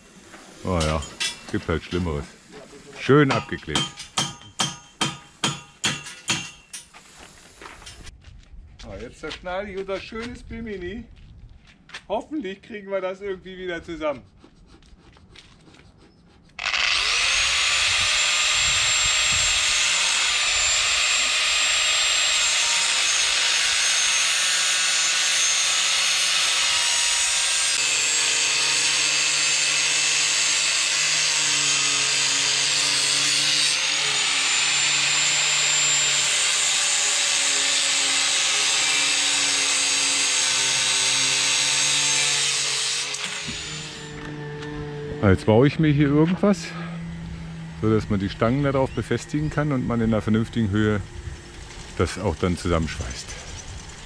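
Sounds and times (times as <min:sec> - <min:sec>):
angle grinder cutting steel: 0:00.6 - 0:06.9, 0:16.6 - 0:54.0.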